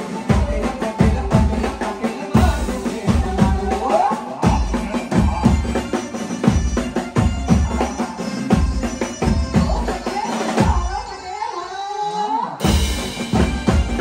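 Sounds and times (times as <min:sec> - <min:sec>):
heavy drum beat: 0:00.0 - 0:11.1, 0:12.6 - 0:14.0
live band playing dance music: 0:00.0 - 0:14.0.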